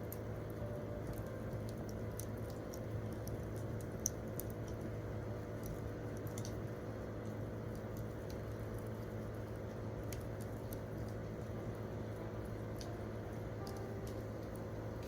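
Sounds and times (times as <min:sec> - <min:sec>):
campfire pops and snaps: 0:00.0 - 0:15.0
low rumble of burning fire: 0:00.0 - 0:15.0.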